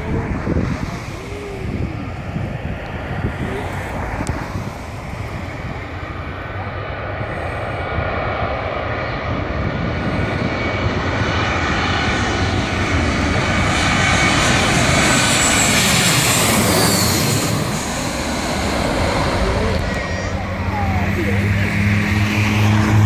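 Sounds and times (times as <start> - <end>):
jet engines roaring past: 0.0 - 23.0.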